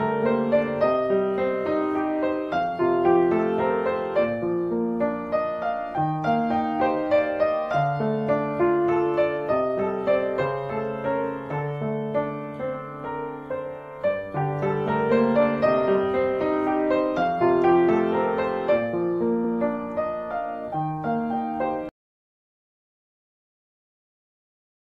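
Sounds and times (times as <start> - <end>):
gentle piano music: 0.0 - 21.9.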